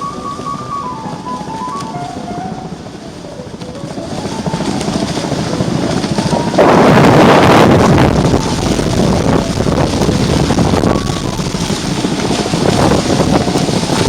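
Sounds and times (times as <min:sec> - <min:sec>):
water rushing past hulls: 0:00.0 - 0:14.0
wind buffeting microphone: 0:00.0 - 0:14.0.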